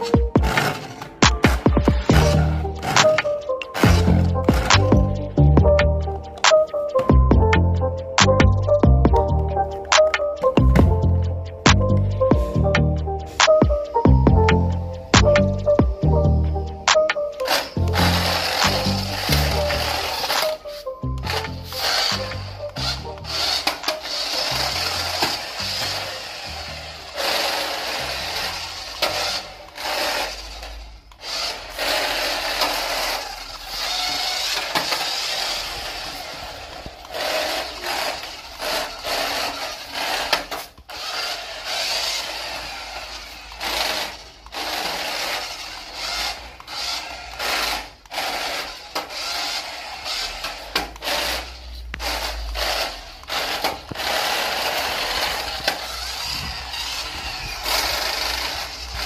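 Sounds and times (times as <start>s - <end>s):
toy car motor whirring: 0.0s - 5.4s, 16.9s - 59.0s
wheels rolling on rough floor: 0.0s - 7.6s, 8.3s - 59.0s.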